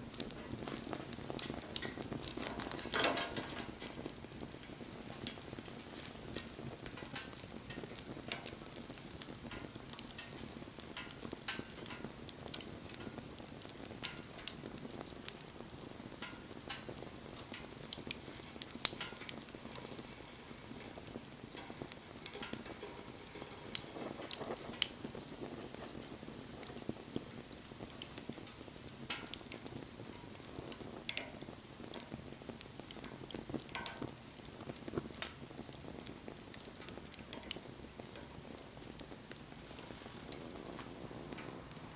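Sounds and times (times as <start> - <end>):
campfire crackling and popping: 0.0 - 41.9
fire hissing: 0.0 - 41.9.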